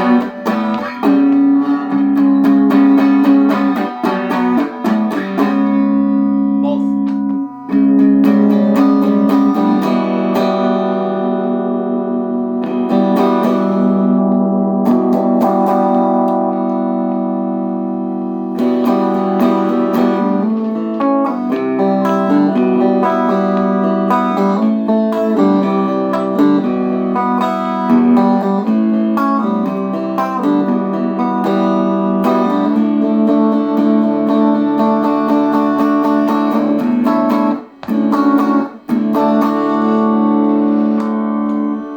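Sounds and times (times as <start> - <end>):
electric guitar chords and picked notes: 0.0 - 41.9.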